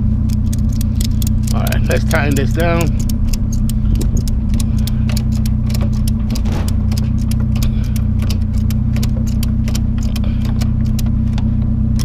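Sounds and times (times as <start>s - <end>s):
ratchet strap clicking: 0.0s - 12.0s
vehicle engine idling: 0.0s - 12.0s.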